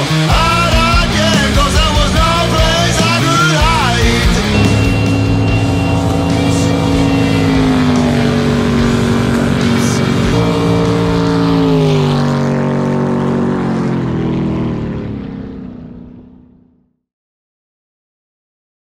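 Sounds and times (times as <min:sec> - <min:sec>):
jet boat engines passing: 0:00.2 - 0:16.8.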